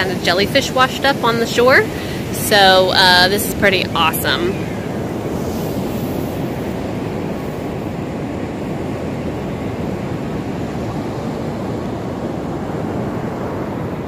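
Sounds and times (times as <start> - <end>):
ocean surf: 0.0 - 14.0
wind on microphone: 0.0 - 14.0.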